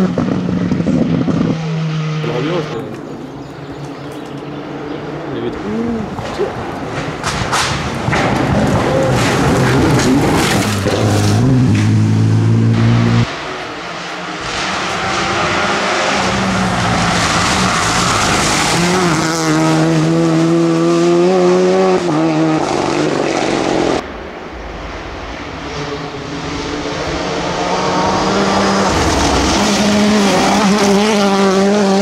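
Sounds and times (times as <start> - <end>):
rally car engines revving high: 0.0 - 32.0.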